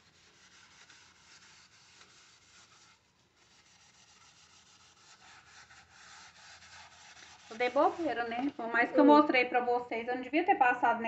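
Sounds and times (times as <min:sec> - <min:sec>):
sponge scrubbing metal lid: 0:00.0 - 0:09.0.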